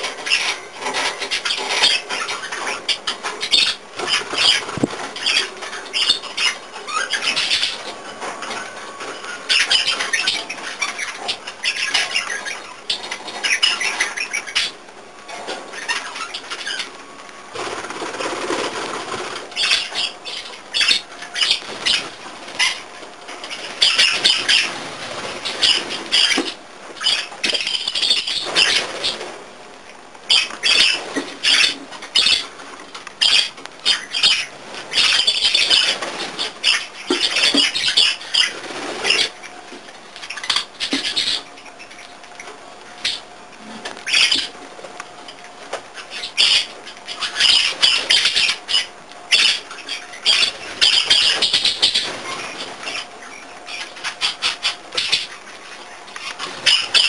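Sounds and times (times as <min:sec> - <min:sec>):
budgerigar squawking and chattering: 0:00.0 - 0:16.9, 0:17.9 - 0:29.2, 0:30.3 - 0:32.6, 0:33.2 - 0:43.3, 0:44.0 - 0:44.6, 0:46.0 - 0:57.0.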